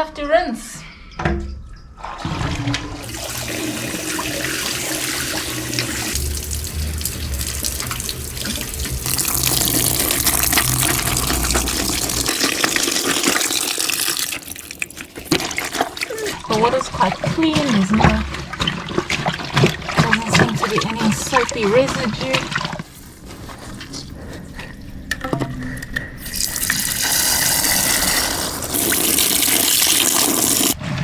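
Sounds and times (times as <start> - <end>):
tap running into basin: 3.0 - 30.8.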